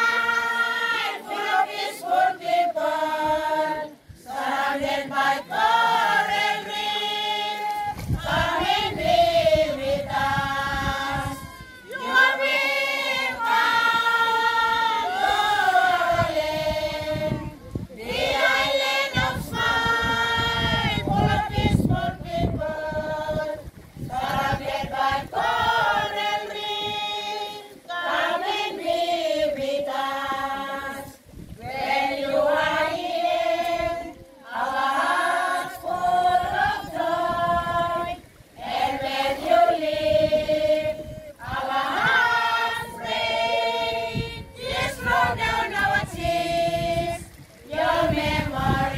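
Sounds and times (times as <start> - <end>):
women and children singing: 0.0 - 48.9.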